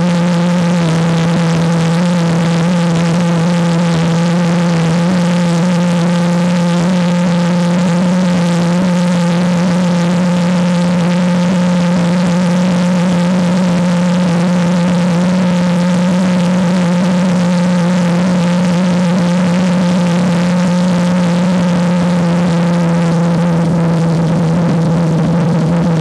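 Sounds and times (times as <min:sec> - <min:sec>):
jet engine roaring: 0:00.0 - 0:26.0.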